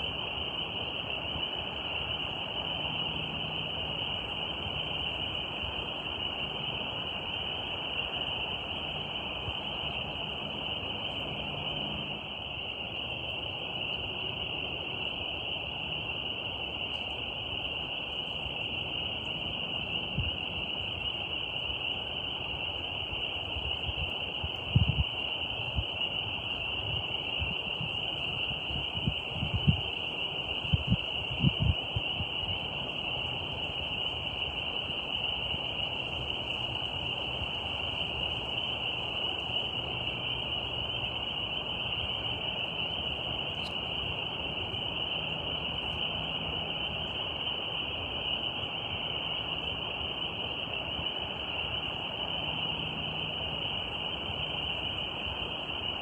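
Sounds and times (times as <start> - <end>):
insect chorus buzzing: 0.0 - 56.0.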